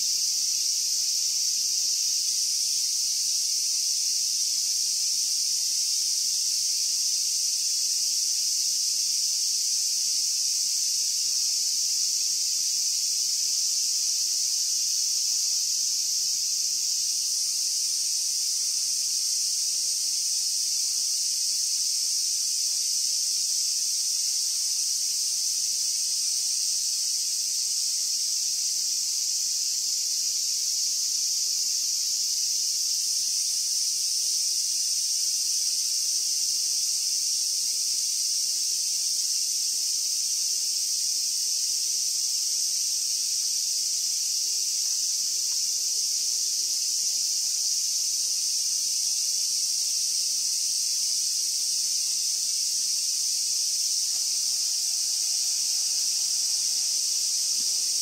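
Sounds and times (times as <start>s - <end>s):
cicadas singing: 0.0s - 58.0s.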